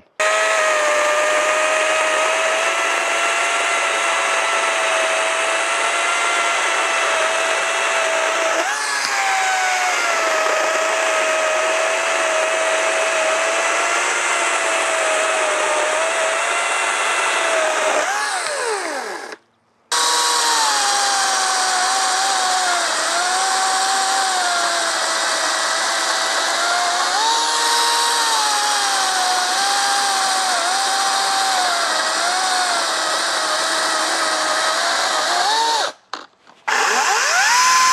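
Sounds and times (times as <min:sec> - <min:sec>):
battery chainsaw cutting log: 0:00.0 - 0:37.9.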